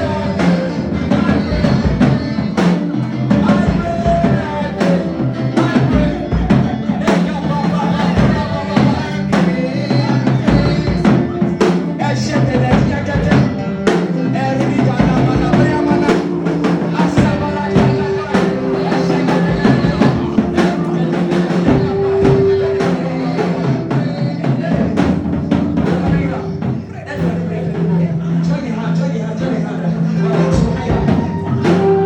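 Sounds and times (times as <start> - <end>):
bass: 0.0 - 32.0
drum kit beats: 0.0 - 32.0
gospel band playing: 0.0 - 32.0
held keyboard notes: 0.0 - 32.0.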